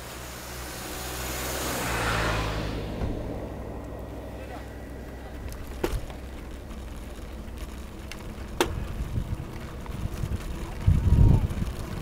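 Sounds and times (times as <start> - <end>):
bicycle road rumble: 0.0 - 12.0
wind: 0.0 - 12.0.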